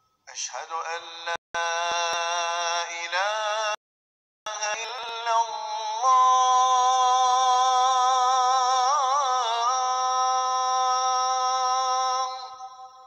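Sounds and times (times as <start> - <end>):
call to prayer sung by one voice: 0.3 - 3.8, 4.5 - 13.0.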